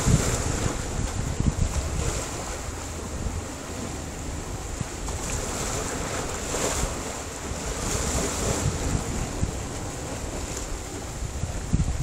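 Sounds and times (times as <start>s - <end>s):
waves washing on rocky shore: 0.0s - 12.0s
wind rumbling on microphone: 0.0s - 12.0s.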